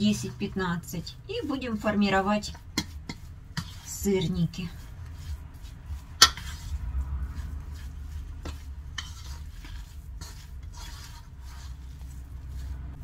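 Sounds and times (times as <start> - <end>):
low steady hum: 0.0 - 13.0
spoon scraping in a bowl: 0.0 - 13.0.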